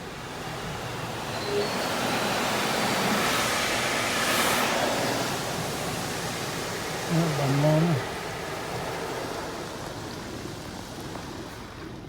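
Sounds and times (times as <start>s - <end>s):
car wash water jets spraying: 0.0s - 12.0s.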